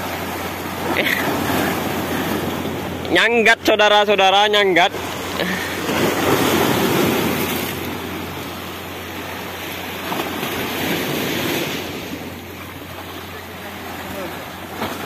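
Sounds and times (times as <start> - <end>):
sea waves washing against rocks: 0.0 - 15.0.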